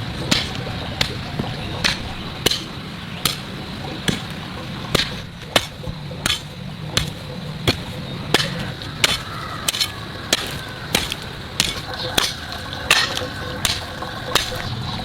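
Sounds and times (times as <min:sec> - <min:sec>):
sharp knocks: 0:00.0 - 0:14.7
low steady hum: 0:00.0 - 0:15.0.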